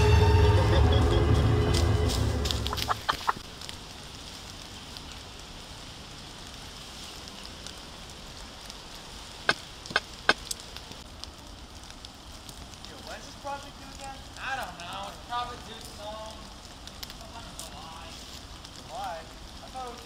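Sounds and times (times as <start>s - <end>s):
faint steady hiss: 1.1s - 20.0s.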